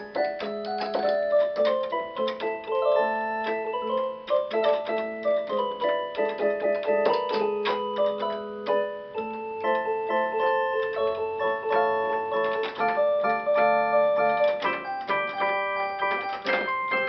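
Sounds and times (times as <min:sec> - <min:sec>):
sharp key clicks: 0:00.0 - 0:09.9, 0:10.8 - 0:17.0
electronic organ chords: 0:00.0 - 0:17.0.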